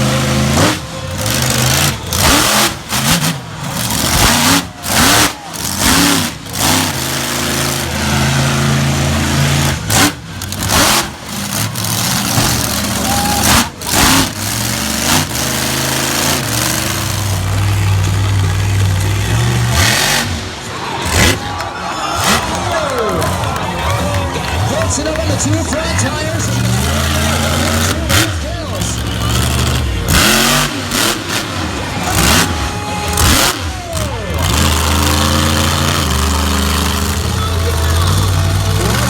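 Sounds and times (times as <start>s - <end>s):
truck engine revving hard: 0.0s - 39.0s.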